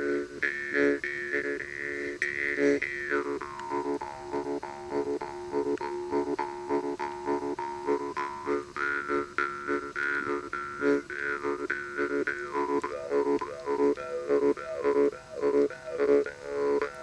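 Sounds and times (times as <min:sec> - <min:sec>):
jaw harp playing: 0:00.0 - 0:17.0.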